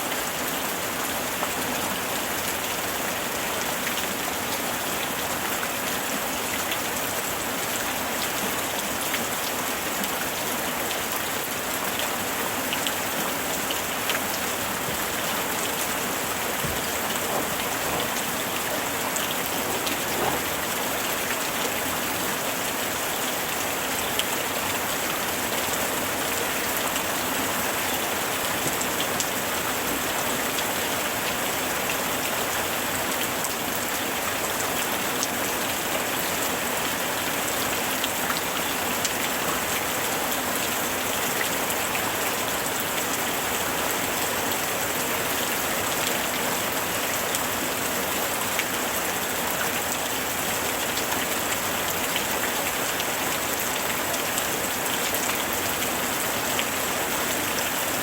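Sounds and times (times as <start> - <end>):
steady rain hiss: 0.0 - 58.0
raindrops ticking on a surface: 3.7 - 56.9.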